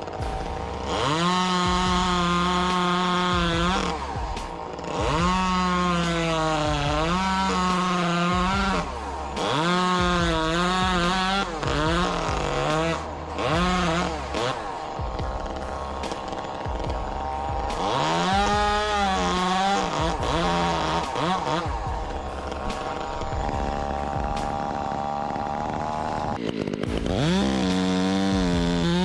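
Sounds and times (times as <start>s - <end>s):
chainsaw revving: 0.0s - 29.0s.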